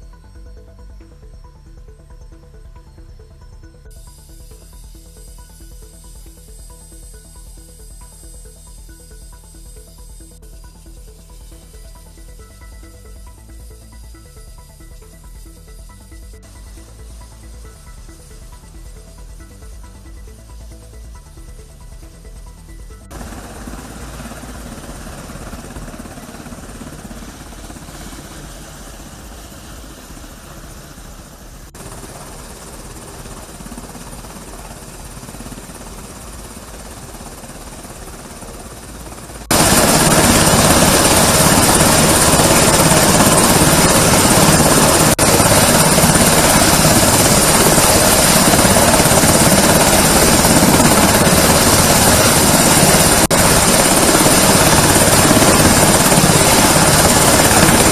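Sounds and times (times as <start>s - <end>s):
helicopter rotor and engine: 0.0s - 57.9s.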